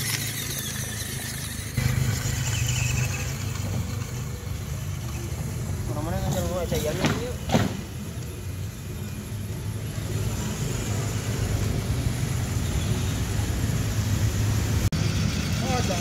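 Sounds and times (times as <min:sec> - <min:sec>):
electric toy trucks driving on grass: 0:00.0 - 0:16.0.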